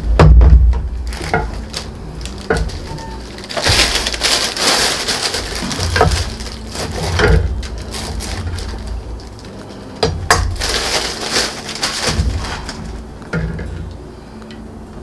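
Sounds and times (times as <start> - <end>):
paper bag rustling: 1.0 - 13.7.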